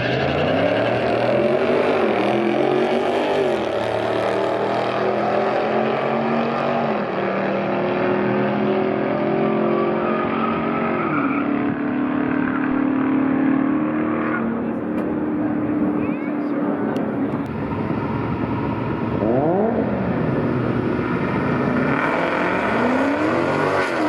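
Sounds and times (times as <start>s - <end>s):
drag car engine at full throttle: 0.0s - 24.0s.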